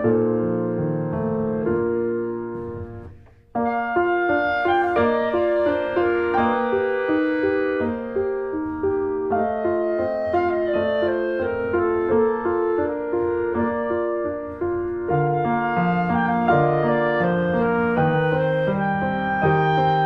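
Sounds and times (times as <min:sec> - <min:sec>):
gentle piano melody: 0:00.0 - 0:20.0
sustained woodwind notes: 0:00.0 - 0:20.0.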